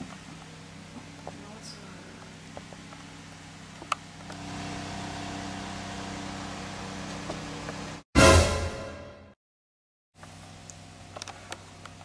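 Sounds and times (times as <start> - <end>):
low mechanical hum: 0.0 - 8.0, 10.2 - 12.0.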